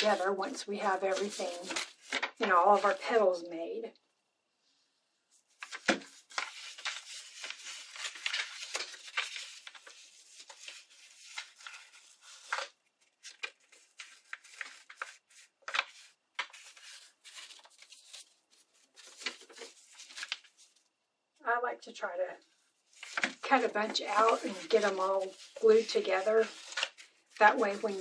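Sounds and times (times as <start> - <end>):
paper rustling and crinkling: 0.0 - 3.2, 5.3 - 20.8, 22.8 - 28.0.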